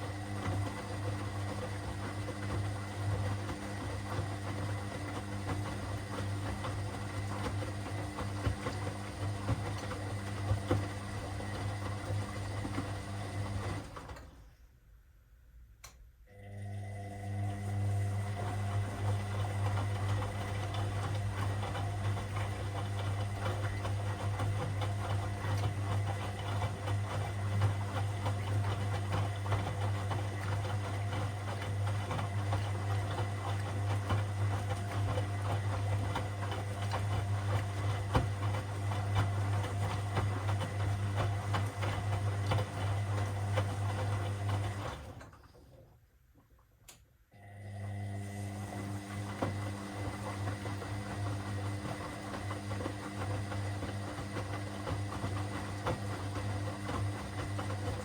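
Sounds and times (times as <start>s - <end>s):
washing machine running: 0.0s - 14.6s, 16.2s - 46.0s, 47.3s - 58.0s.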